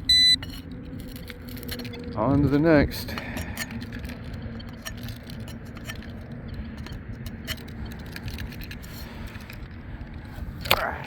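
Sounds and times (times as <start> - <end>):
handling clicks and rattles: 0.0 - 10.9
wind rumbling on microphone: 0.0 - 11.0.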